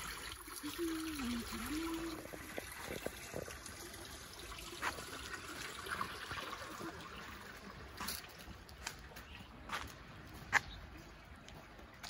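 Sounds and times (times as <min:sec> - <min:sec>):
water trickling: 0:00.0 - 0:10.1.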